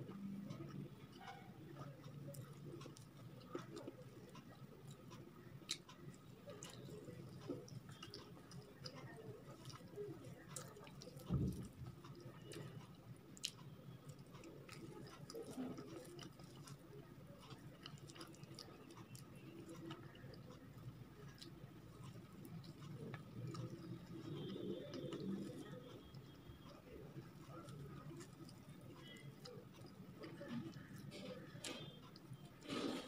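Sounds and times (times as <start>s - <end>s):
chewing and wet mouth noises: 0.0s - 33.0s
fingers squishing food: 0.2s - 33.0s.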